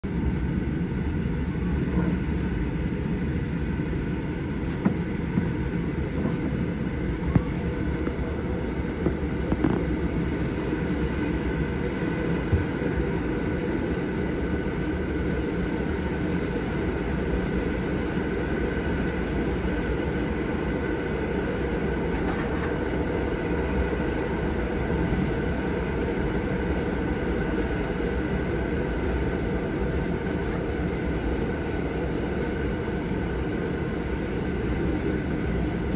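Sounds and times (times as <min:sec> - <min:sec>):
train wheels rumbling on track: 0:00.2 - 0:35.9.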